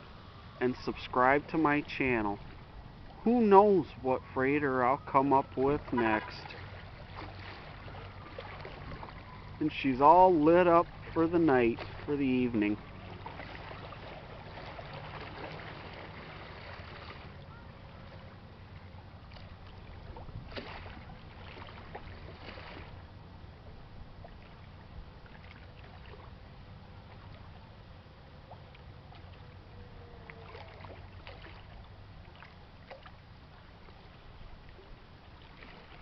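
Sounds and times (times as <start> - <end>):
faint dipping tone: 0.0 - 36.0
ship engines droning: 0.0 - 36.0.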